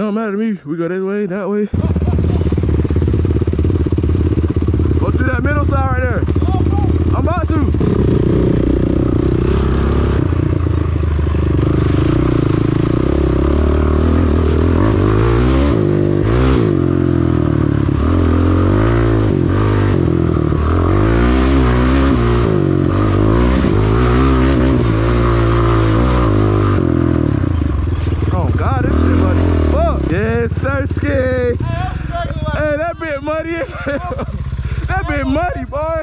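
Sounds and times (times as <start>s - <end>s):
atv engine revving: 0.0s - 36.0s.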